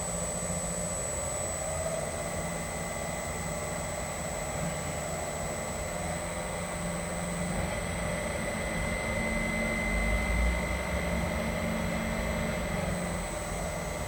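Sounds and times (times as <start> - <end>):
electric motor hum with whine: 0.0 - 14.0.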